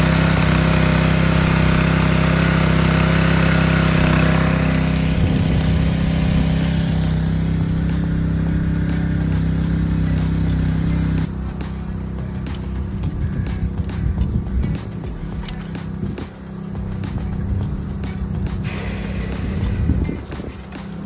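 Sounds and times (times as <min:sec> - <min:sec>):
small gasoline engine running: 0:00.0 - 0:21.0.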